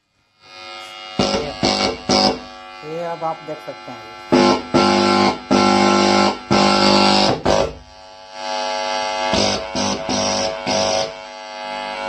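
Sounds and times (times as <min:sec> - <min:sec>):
guitar through an amplifier: 0:00.5 - 0:12.0.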